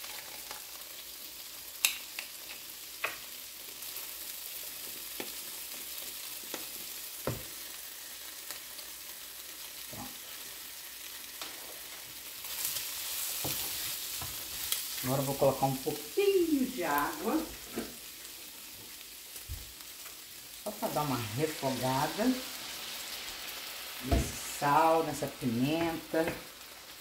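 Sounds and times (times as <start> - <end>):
chicken sizzling in a frying pan: 0.0 - 27.0.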